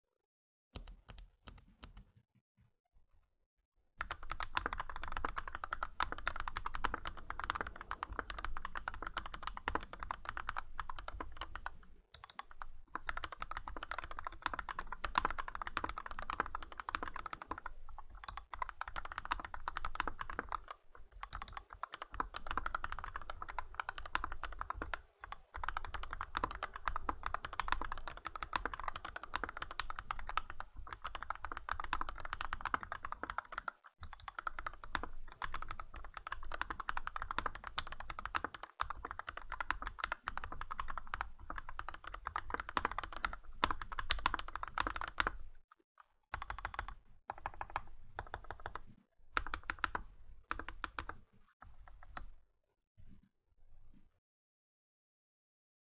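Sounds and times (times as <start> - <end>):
mechanical keyboard typing: 4.0 - 45.5, 46.3 - 51.2, 51.8 - 52.3.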